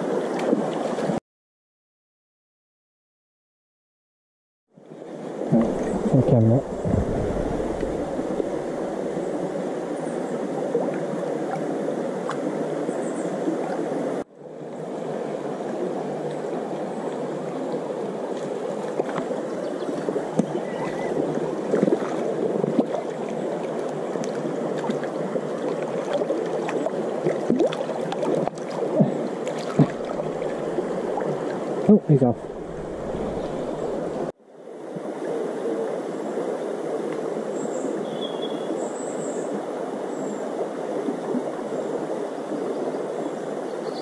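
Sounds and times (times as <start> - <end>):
stream running over stones: 0.0 - 1.2, 5.1 - 44.0.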